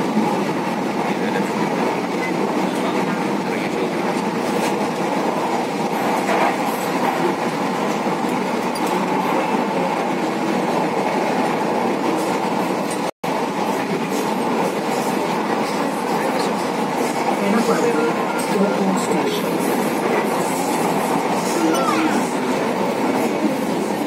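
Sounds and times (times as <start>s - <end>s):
train running noise from inside: 0.0s - 24.0s.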